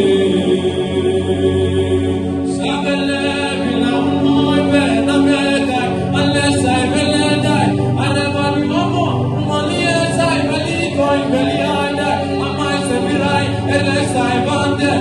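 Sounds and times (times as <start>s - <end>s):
steady low drone: 0.0s - 15.0s
wordless vocal singing: 0.0s - 15.0s.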